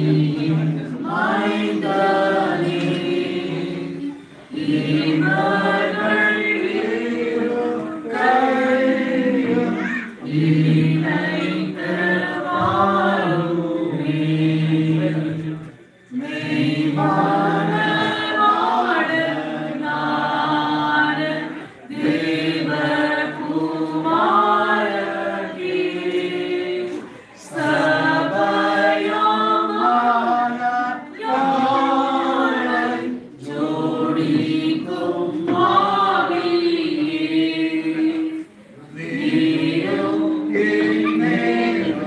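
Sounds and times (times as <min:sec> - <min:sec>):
congregation singing a hymn: 0:00.0 - 0:42.0.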